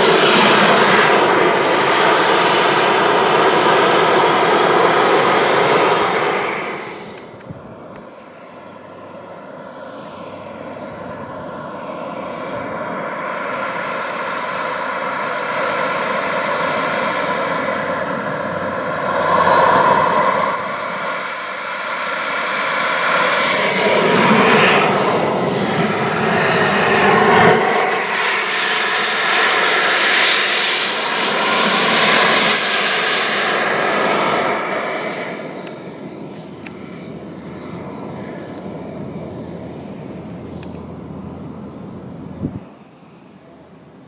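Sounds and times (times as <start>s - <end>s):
model jet turbine whistling: 0.0s - 41.2s.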